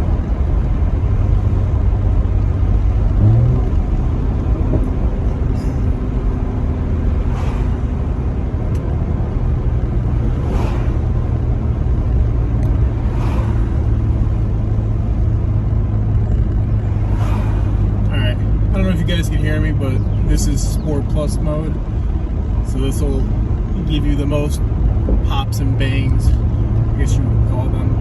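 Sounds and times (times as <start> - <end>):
car exhaust low drone: 0.0 - 28.0.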